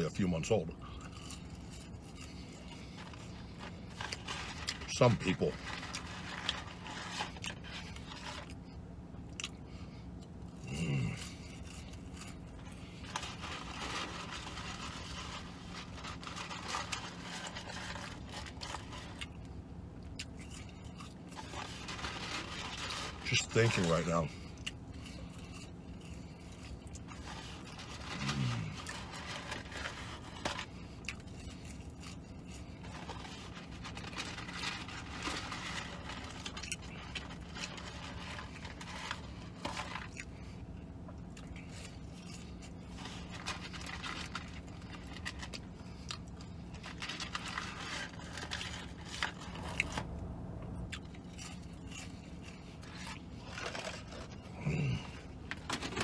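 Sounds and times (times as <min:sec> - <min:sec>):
low steady hum: 0:00.0 - 0:56.0
chewing: 0:00.7 - 0:04.9, 0:05.5 - 0:56.0.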